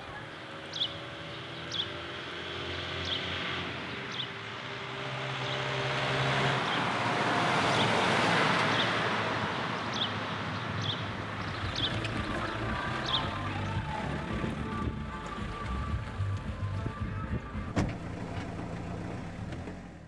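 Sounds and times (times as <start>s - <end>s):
tyre noise on wet road: 0.0s - 17.0s, 17.6s - 20.0s
car engine hum: 0.0s - 20.0s.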